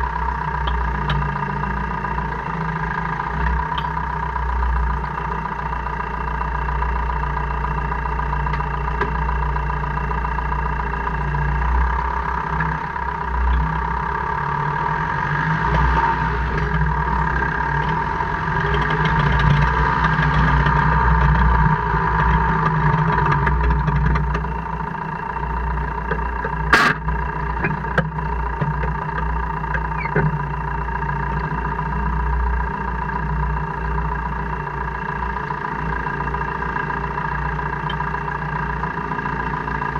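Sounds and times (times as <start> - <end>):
constant whine: 0.0 - 39.9
engine droning: 0.0 - 39.9.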